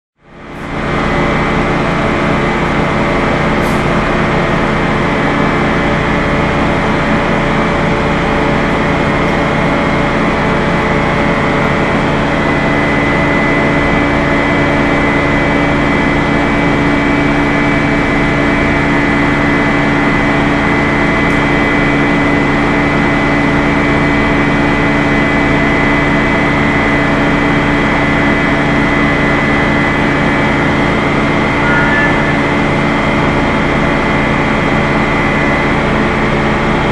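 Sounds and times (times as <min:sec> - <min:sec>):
high mechanical whine: 0:00.2 - 0:36.9
machinery drone: 0:00.2 - 0:36.9.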